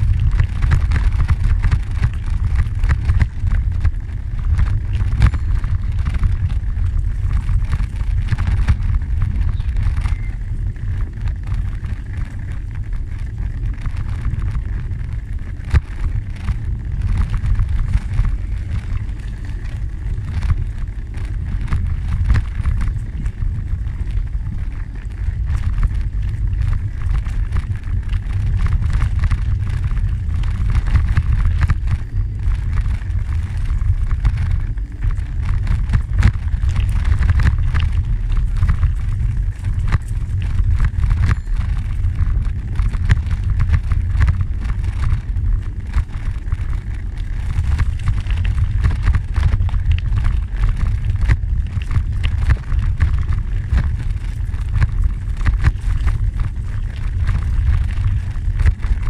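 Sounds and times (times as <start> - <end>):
gravel crunching: 0.0 - 59.0
wind buffeting microphone: 0.0 - 59.0.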